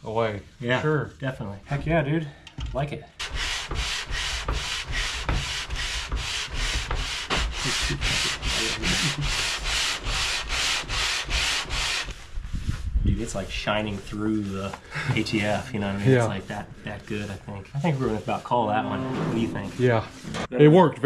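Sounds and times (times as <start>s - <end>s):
metal sanding rasp: 3.2s - 20.5s.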